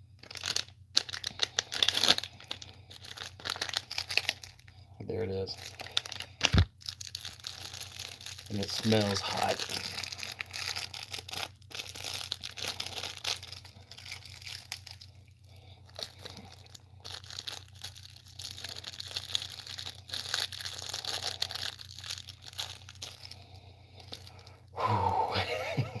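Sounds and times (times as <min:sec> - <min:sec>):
foil wrapper crinkling: 0:00.0 - 0:24.7
steady low hum: 0:00.0 - 0:26.0.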